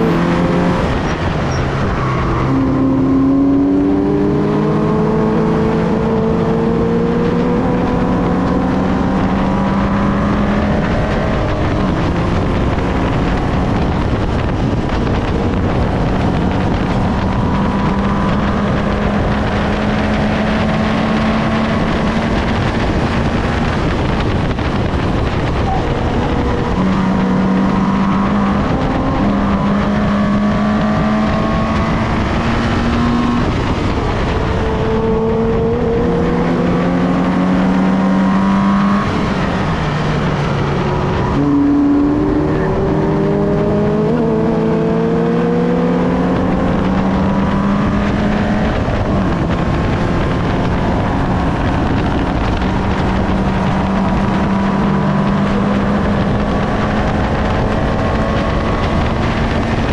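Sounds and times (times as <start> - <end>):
car engine revving: 0.0 - 59.9
wind and road noise: 0.0 - 59.9.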